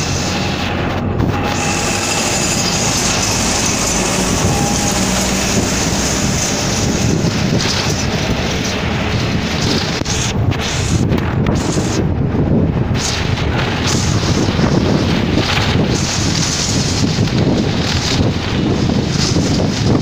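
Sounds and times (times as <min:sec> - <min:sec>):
bus engine and road noise: 0:00.0 - 0:20.0
traffic passing: 0:00.0 - 0:20.0.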